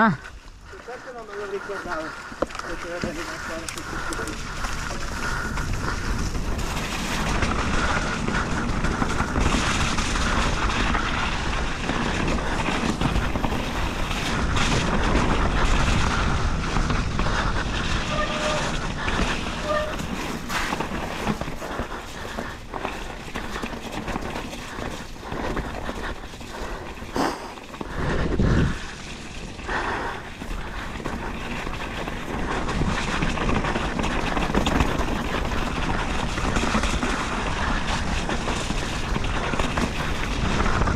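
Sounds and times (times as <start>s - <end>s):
bike rattling: 0.0s - 40.9s
bike tyre noise: 0.0s - 40.9s
wind rushing over microphone: 3.4s - 24.2s, 27.8s - 40.9s.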